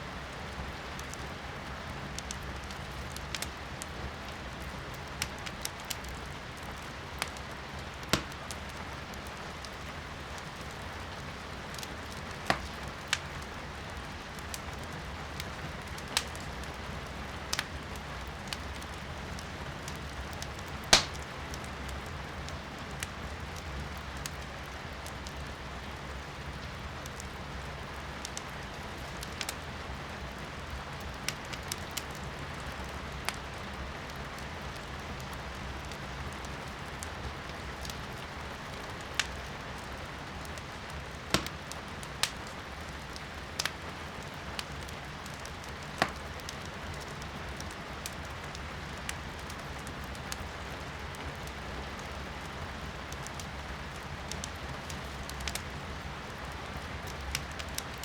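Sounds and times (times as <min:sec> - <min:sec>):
rain hissing outside: 0:00.0 - 0:58.0
firewood crackling in fireplace: 0:00.1 - 0:58.0.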